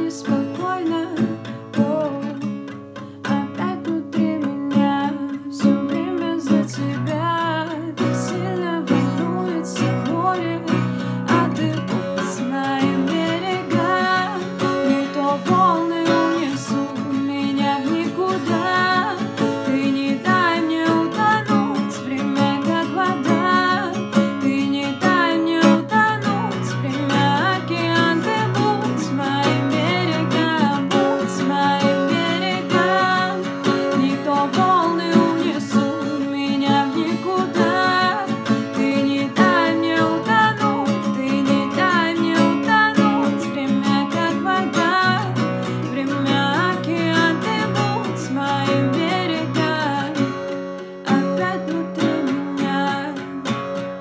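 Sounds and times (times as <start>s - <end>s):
acoustic guitar chords: 0.0s - 54.0s
woman singing a pop ballad: 0.0s - 54.0s.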